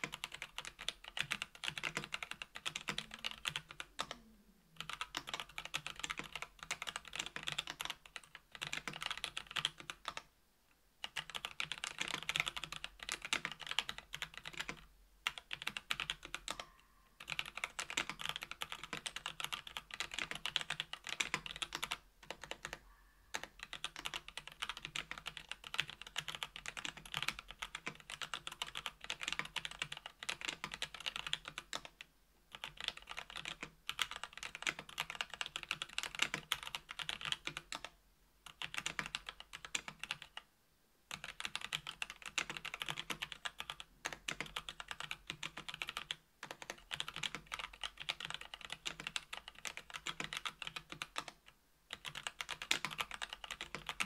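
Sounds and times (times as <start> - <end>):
fast typing on mechanical keyboard: 0.0 - 4.2, 4.8 - 10.3, 11.0 - 40.4, 41.1 - 54.0.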